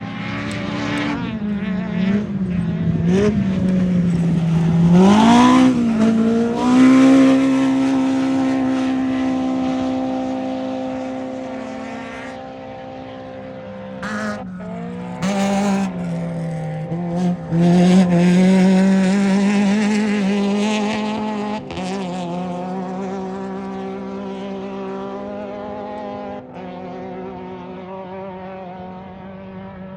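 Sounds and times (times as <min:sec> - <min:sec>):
race vehicle engine running hard: 0:00.0 - 0:29.9.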